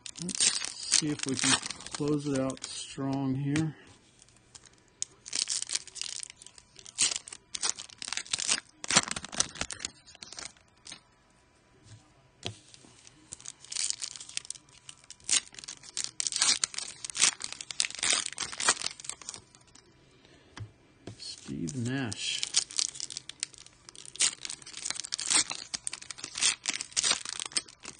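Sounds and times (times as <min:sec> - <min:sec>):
foil packs tearing and crinkling: 0:00.0 - 0:03.7, 0:04.6 - 0:11.0, 0:13.2 - 0:19.8, 0:21.2 - 0:27.9.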